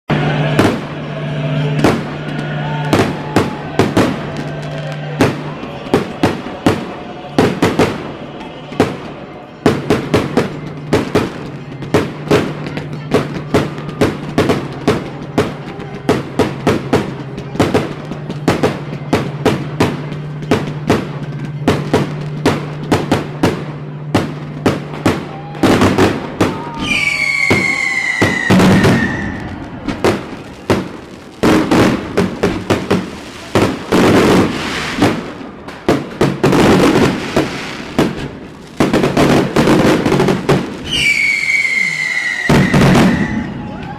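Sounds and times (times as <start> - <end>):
whistling firework: 0.1 - 35.4, 36.4 - 43.9
fireworks bangs and crackles: 0.1 - 43.9.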